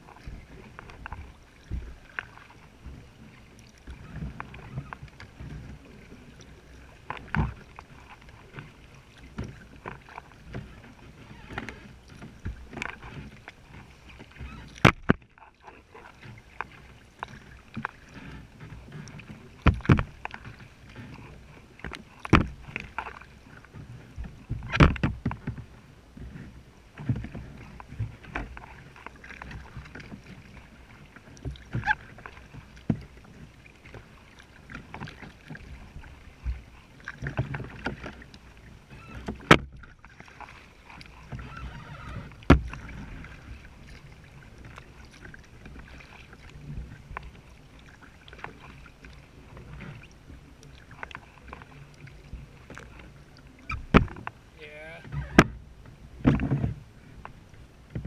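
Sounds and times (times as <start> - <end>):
paddle strokes splashing: 0.0 - 58.0
water sloshing along plastic hull: 0.0 - 58.0.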